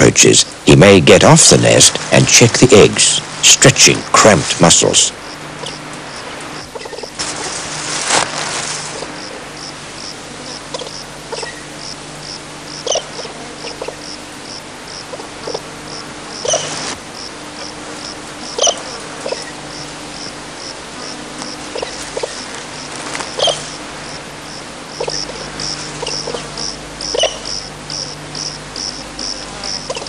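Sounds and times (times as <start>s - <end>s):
low steady hum: 0.0s - 30.0s
insect chirping: 5.1s - 30.0s.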